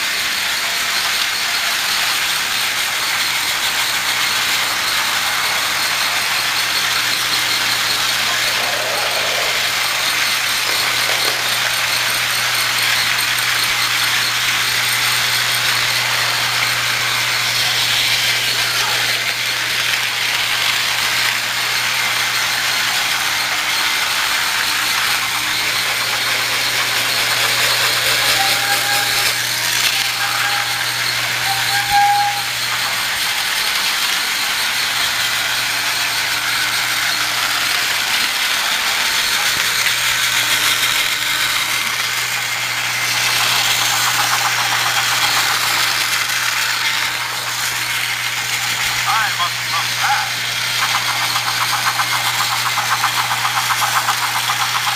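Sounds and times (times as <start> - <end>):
plastic track rattling: 0.0 - 54.9
toy train motors whirring: 0.0 - 54.9.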